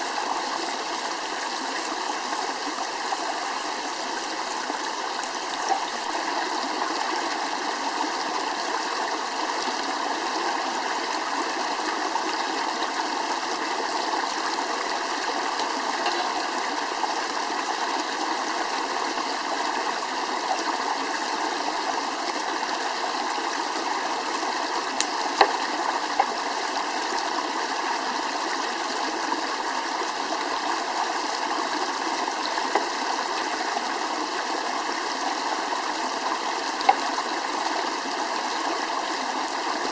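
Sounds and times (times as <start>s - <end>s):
flowing stream rushing: 0.0s - 39.9s.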